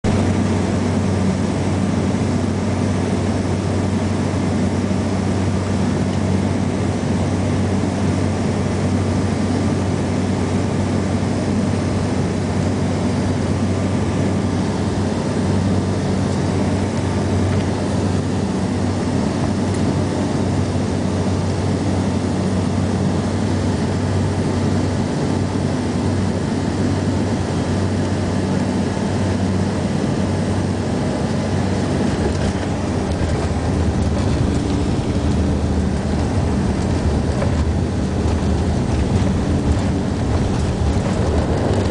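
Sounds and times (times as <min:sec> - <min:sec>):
turboprop cabin drone: 0:00.0 - 0:41.9.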